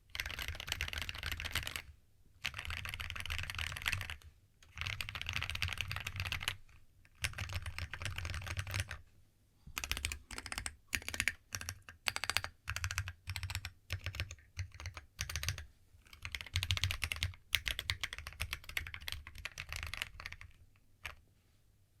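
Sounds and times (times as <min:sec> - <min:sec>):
mechanical keyboard typing: 0:00.1 - 0:01.8, 0:02.4 - 0:09.0, 0:09.8 - 0:21.2.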